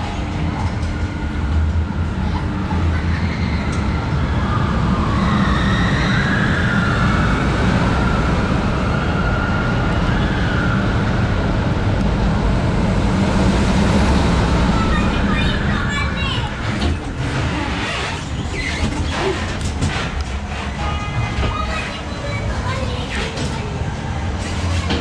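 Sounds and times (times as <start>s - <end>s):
ride car rumbling along track: 0.0s - 25.0s.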